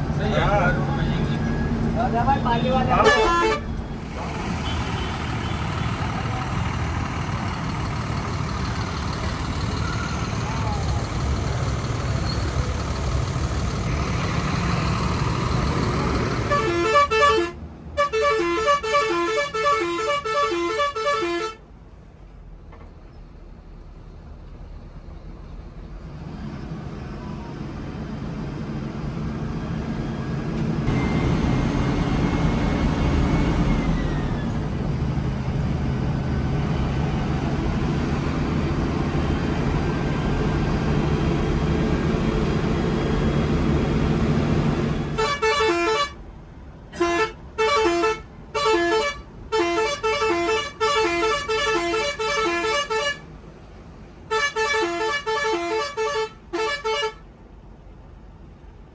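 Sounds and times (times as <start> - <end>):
bus road and engine rumble: 0.0 - 58.9.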